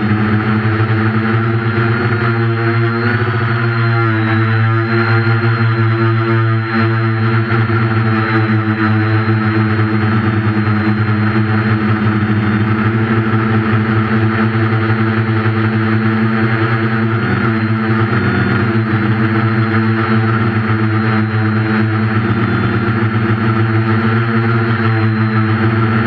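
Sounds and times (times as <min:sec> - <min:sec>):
drone motors humming: 0:00.0 - 0:26.0.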